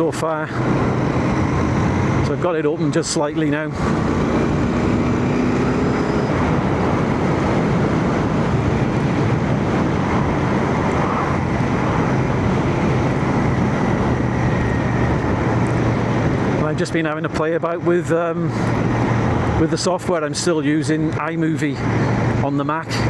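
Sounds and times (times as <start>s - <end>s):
motorcycle engine droning: 0.0s - 23.0s
wind and road noise: 0.0s - 23.0s.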